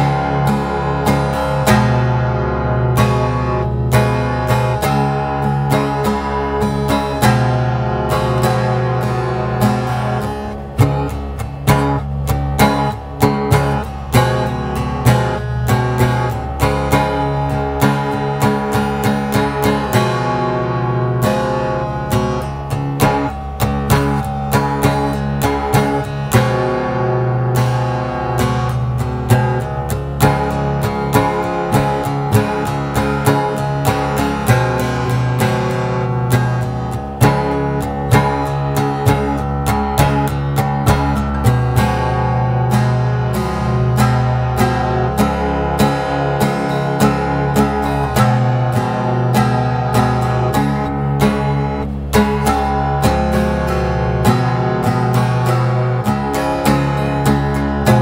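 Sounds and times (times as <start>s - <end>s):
strummed stringed instrument chords: 0.0s - 58.0s
sustained low bass notes: 0.0s - 58.0s.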